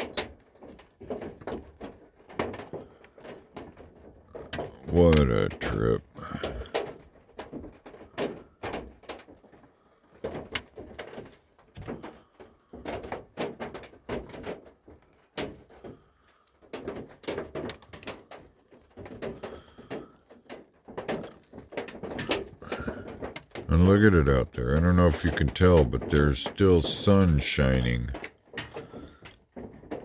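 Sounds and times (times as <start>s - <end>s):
ice pellets and rain on metal roof: 0.0s - 30.0s.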